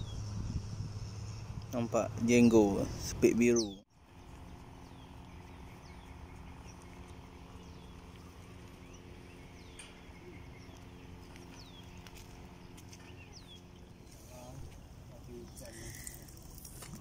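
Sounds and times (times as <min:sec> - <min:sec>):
small bird chirping: 0:00.0 - 0:01.6, 0:02.6 - 0:14.6
low hum and rumble: 0:00.0 - 0:17.0.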